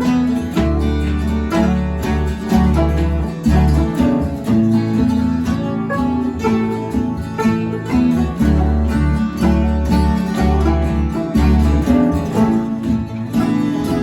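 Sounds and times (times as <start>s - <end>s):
acoustic guitar: 0.0s - 14.0s
banjo: 0.0s - 14.0s.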